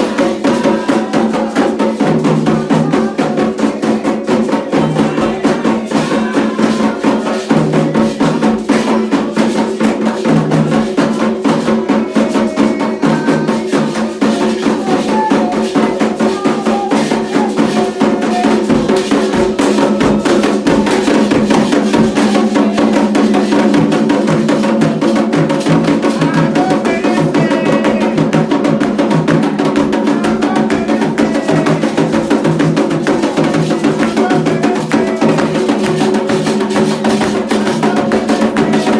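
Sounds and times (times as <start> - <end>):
hand drums beaten fast: 0.0 - 38.9.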